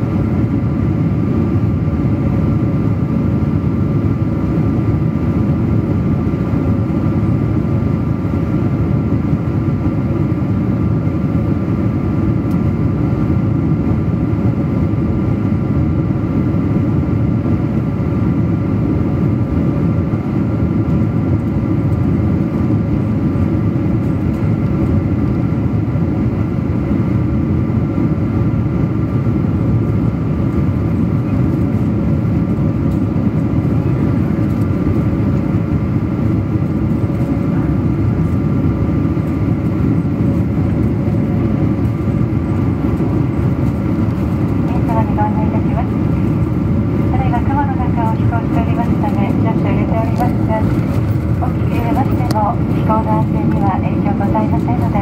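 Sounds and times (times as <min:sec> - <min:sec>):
airplane cabin airflow and engine noise: 0:00.0 - 0:55.0.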